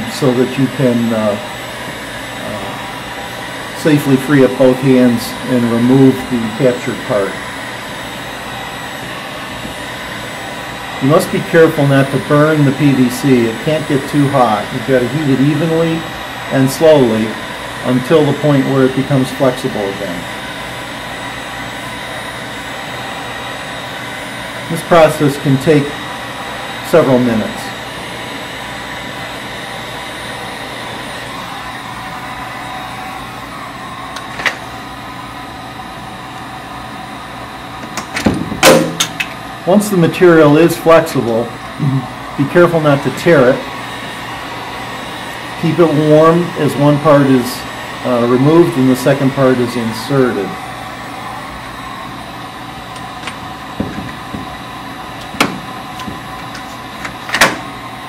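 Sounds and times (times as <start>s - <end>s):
heat gun fan blowing: 0.0s - 58.0s.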